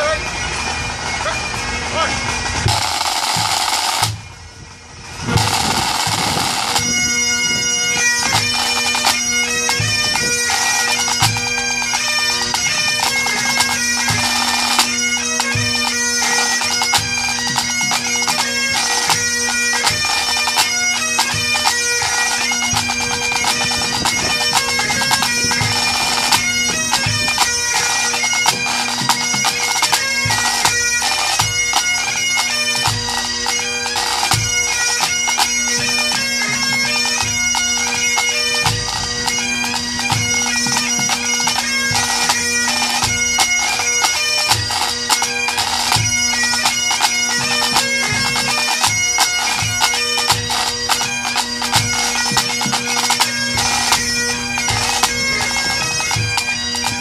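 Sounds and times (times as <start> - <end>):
bagpipes droning and playing tune: 0.0 - 57.0
snare and tenor drums: 1.2 - 4.2, 5.2 - 7.6, 12.6 - 31.9, 34.0 - 37.3, 38.2 - 57.0.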